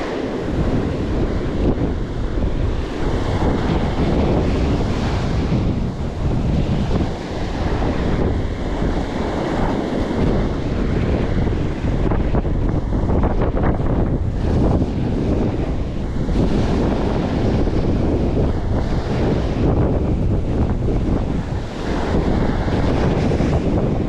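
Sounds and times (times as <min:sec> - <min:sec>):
strong wind buffeting microphone: 0:00.0 - 0:24.0
surf breaking on shore: 0:00.0 - 0:24.0.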